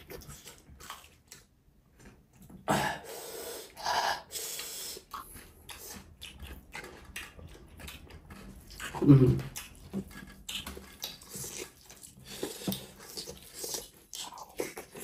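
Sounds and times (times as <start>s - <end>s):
soft chewing and mouth clicks: 0.0s - 2.6s, 4.3s - 15.0s.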